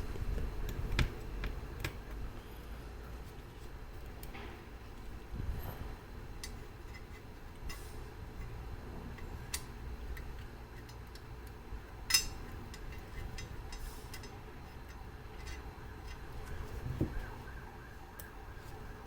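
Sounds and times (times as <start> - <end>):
low room rumble: 0.0 - 19.0.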